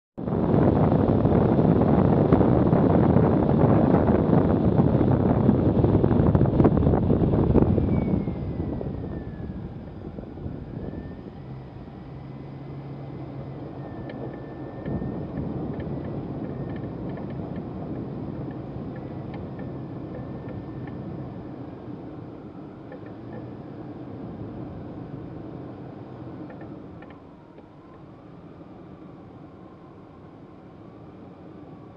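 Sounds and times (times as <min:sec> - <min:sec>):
rush of noise: 0:00.2 - 0:27.2
vehicle engine running: 0:00.2 - 0:28.0.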